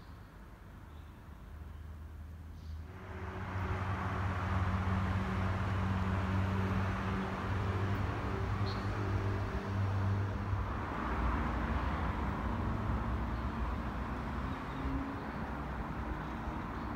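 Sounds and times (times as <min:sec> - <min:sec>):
distant road traffic: 0:00.0 - 0:16.9.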